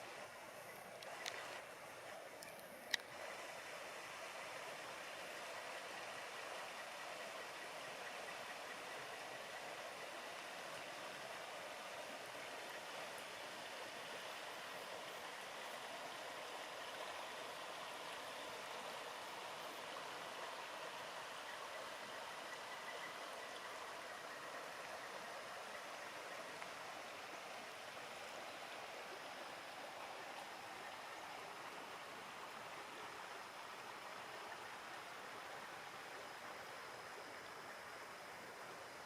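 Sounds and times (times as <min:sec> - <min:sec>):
creek running water: 0:00.0 - 0:39.0.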